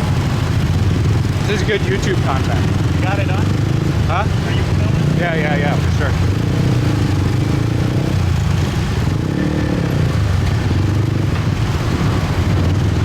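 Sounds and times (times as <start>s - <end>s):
motorbike engine revving: 0.0s - 13.0s
motorbike engines running: 0.0s - 13.0s.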